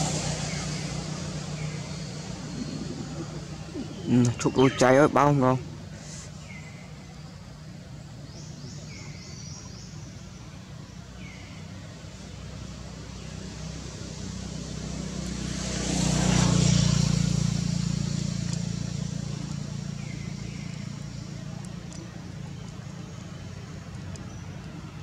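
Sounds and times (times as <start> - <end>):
vehicle engine passing by: 0.0 - 7.2, 11.0 - 25.0.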